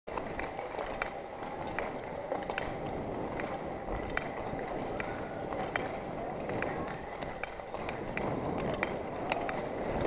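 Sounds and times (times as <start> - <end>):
sharp skate clicks: 0.1 - 10.0
skate blades scraping ice: 0.1 - 10.0.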